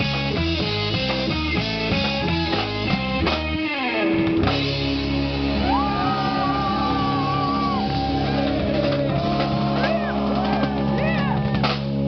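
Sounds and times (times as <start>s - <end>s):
rock electric guitar: 0.0s - 12.0s.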